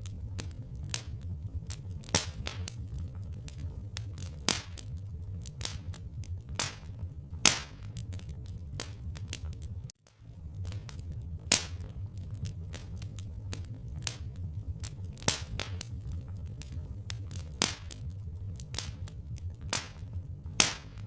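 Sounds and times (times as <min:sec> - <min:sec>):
low steady rumble: 0:00.0 - 0:21.0
sharp fire pops: 0:00.0 - 0:21.0
wood fire crackling: 0:00.0 - 0:21.0.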